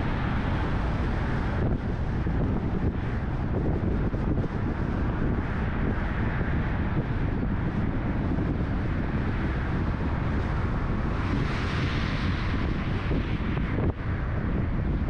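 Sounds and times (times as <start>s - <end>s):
car road noise rumble: 0.0s - 15.0s
wind noise on microphone: 0.0s - 15.0s.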